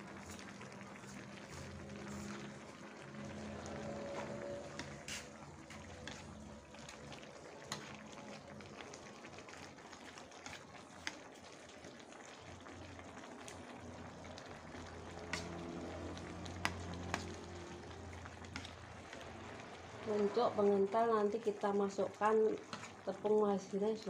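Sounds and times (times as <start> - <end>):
broth bubbling: 0.0 - 23.8.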